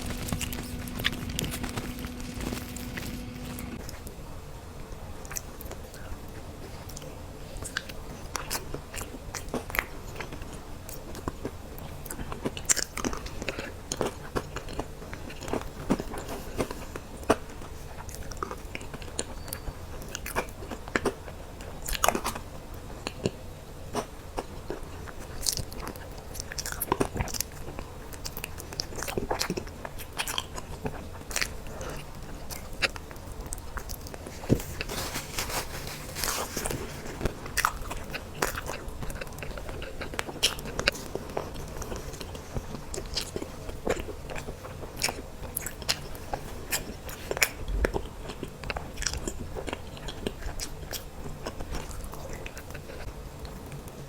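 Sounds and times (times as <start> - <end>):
person chewing dessert: 0.0 - 4.0, 6.9 - 54.0
faint steady hum: 0.0 - 54.0.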